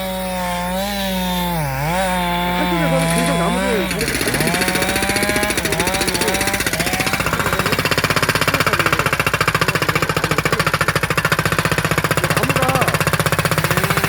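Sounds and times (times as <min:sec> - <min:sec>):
excavator engine running: 0:00.0 - 0:14.0
hydraulic breaker hammering logs: 0:00.0 - 0:14.0.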